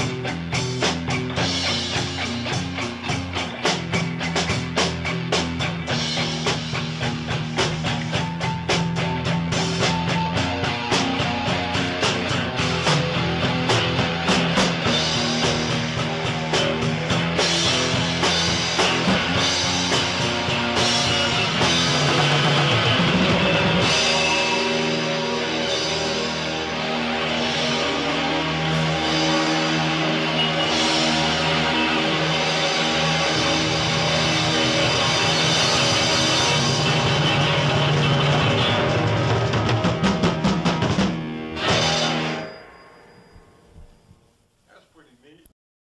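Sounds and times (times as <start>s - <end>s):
steady drum beat: 0.0s - 42.3s
rock guitar: 0.0s - 44.5s.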